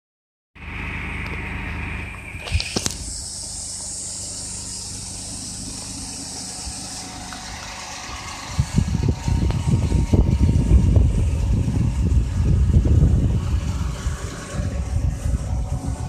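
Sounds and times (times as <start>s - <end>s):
small engine idling: 0.6s - 16.0s
fan hissing: 2.5s - 16.0s.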